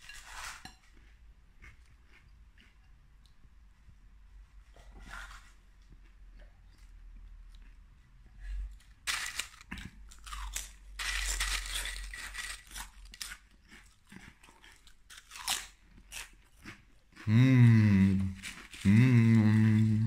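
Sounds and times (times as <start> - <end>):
person chewing crunchy food: 0.0 - 3.0, 5.2 - 20.0.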